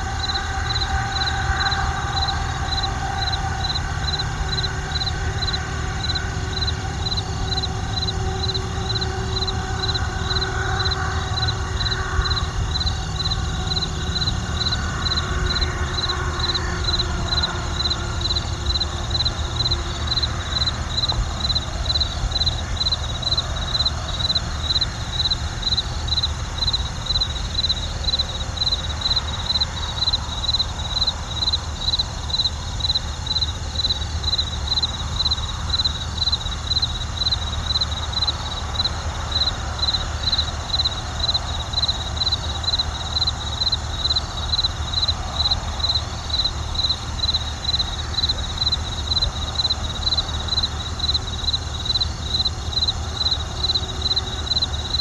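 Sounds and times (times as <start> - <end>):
cricket chirping: 0.0 - 55.0
low steady rumble: 0.0 - 55.0.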